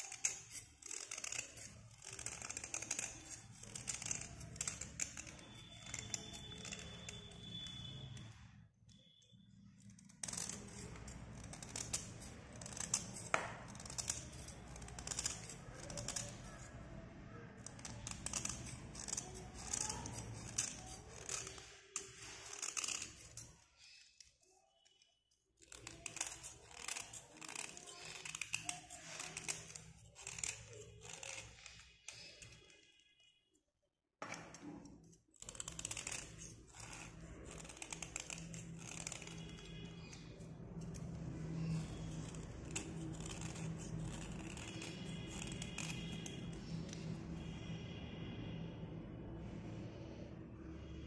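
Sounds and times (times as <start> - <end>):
blade scraping slate pencil: 0.0 - 33.3, 34.2 - 48.2.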